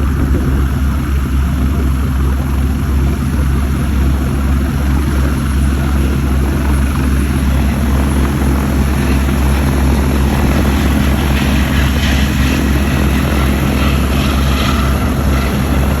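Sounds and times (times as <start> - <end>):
helicopter rotor and turbine drone: 0.0 - 16.0.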